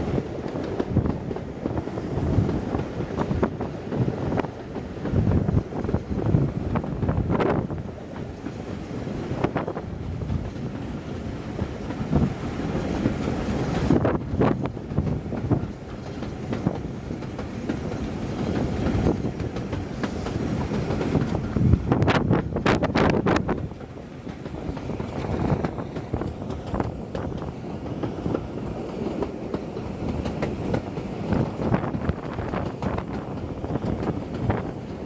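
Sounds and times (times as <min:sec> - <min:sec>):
train wheels clickety-clack: 0:00.0 - 0:35.0.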